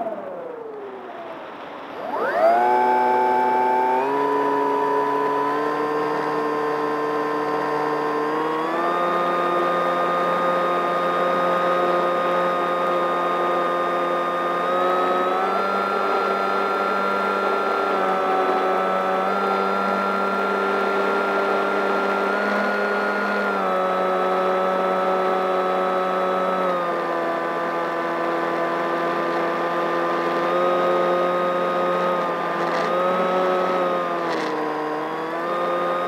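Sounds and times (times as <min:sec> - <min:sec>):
electric motor and propeller whining: 0:00.0 - 0:36.0.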